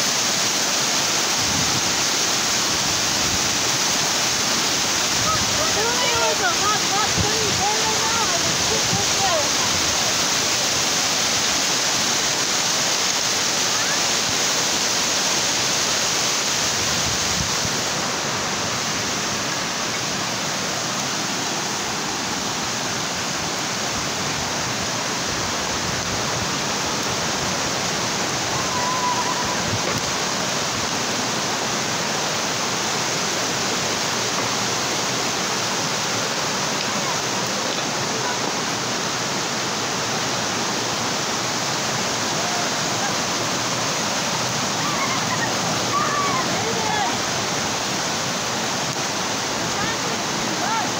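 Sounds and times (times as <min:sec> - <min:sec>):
water rushing over rocks: 0:00.0 - 0:50.9.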